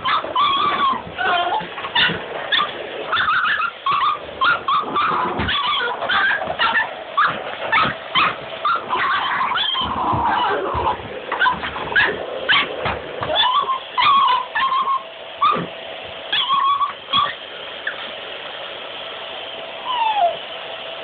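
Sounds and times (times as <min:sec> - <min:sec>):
dogs barking and whining: 0:00.0 - 0:18.2, 0:19.8 - 0:20.5.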